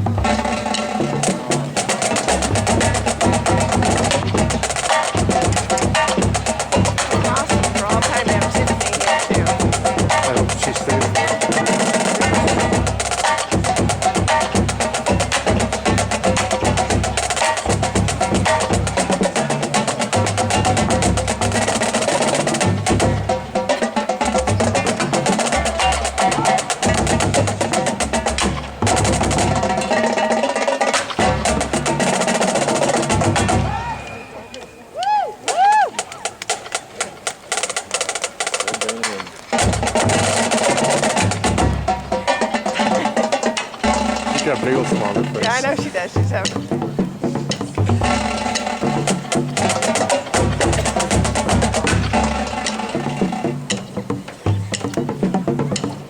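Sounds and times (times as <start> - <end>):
marching drumline cadence: 0.0 - 56.0.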